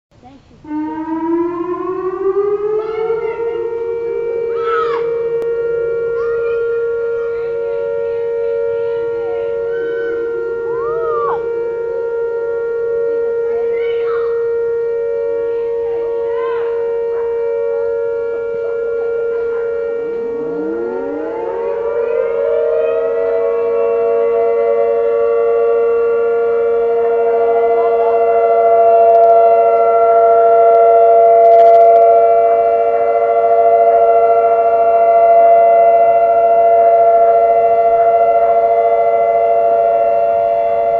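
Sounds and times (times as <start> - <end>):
warning siren steady tone: 0.1 - 40.9
siren winding up: 0.7 - 40.9.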